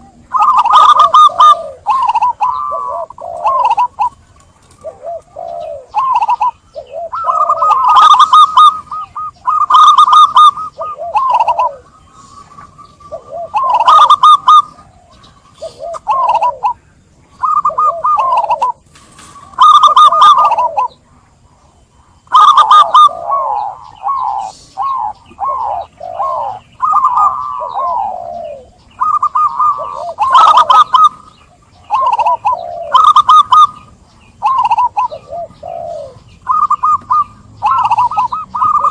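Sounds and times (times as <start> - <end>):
dove rolling coos: 0.0 - 38.9.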